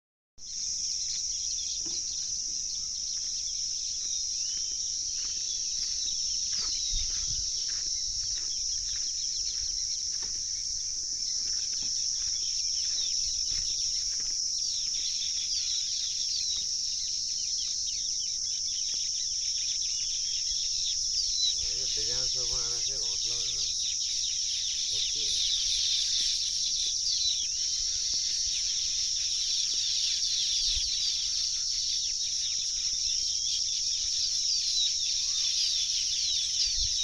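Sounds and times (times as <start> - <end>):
small birds chirping: 0.4 - 37.0
high-pitched insect drone: 0.5 - 37.0.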